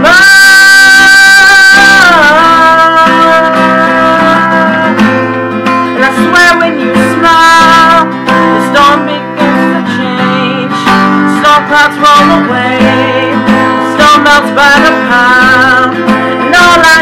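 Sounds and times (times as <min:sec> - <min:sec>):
acoustic guitar strumming: 0:00.0 - 0:17.0
person singing wordless notes: 0:00.0 - 0:17.0.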